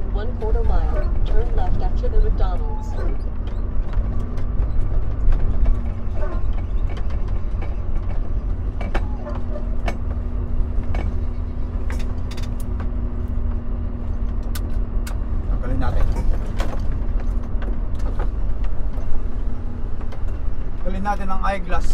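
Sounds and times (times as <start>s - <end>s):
diesel engine rumbling: 0.0s - 21.9s
cab clicks and creaks: 0.1s - 21.9s.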